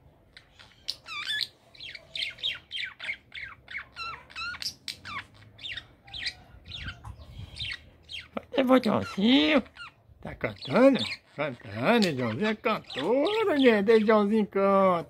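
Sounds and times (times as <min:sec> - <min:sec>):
budgerigar chirping and squawking: 0:00.2 - 0:14.5.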